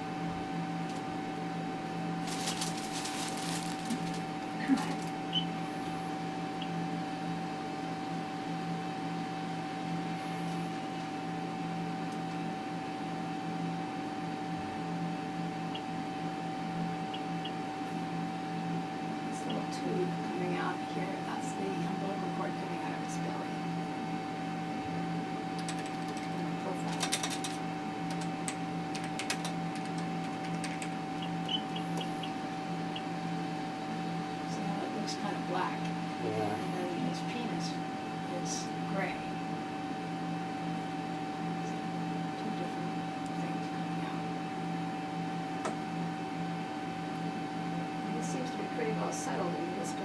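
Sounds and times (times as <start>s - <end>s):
electrical hum with hiss: 0.0s - 50.0s.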